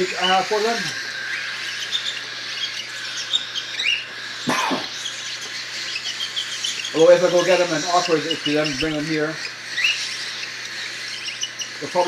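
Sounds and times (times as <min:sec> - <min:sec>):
cockatiels chirping and peeping: 0:00.0 - 0:12.0
steady low hum: 0:00.0 - 0:12.0.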